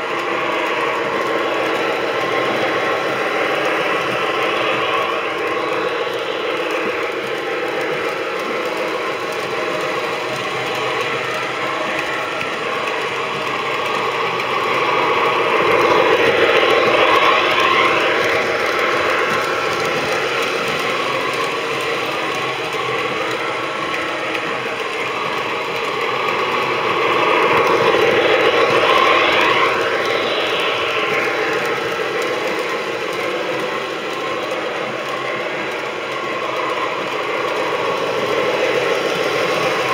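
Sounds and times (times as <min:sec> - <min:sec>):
toy train wheels clattering on rails: 0:00.0 - 0:39.9
train motors whirring: 0:00.0 - 0:39.9.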